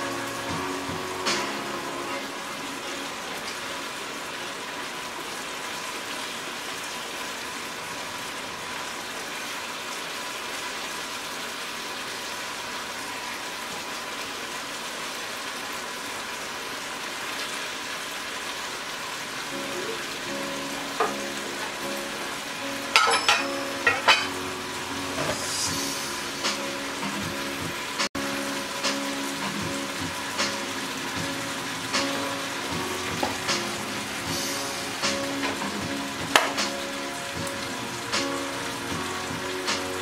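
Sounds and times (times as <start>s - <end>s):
food sizzling in a frying pan: 0.0s - 40.0s.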